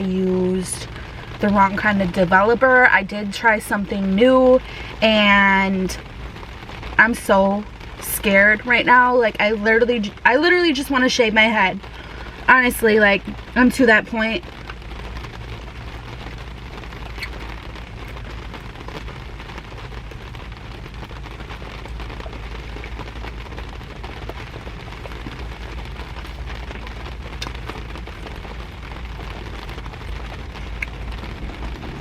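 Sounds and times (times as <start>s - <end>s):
rain falling on a car: 0.0s - 32.0s
raindrop ticks: 0.0s - 32.0s.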